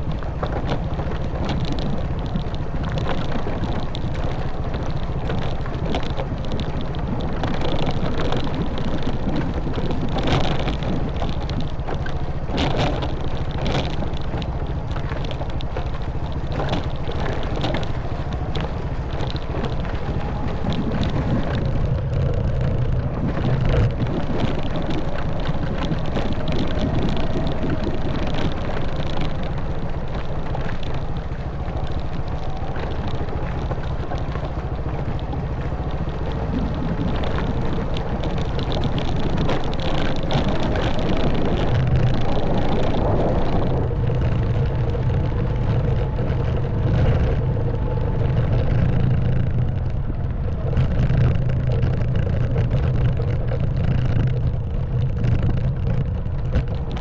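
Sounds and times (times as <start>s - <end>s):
bike knocks and rattles: 0.0s - 57.0s
motorbike engine running: 0.0s - 57.0s
wind buffeting microphone: 0.0s - 57.0s.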